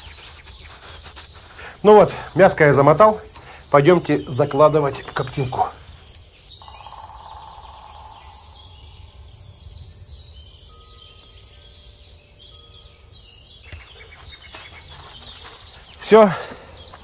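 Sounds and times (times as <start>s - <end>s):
small birds chirping: 0.0s - 17.0s
steady background hiss: 0.0s - 17.0s.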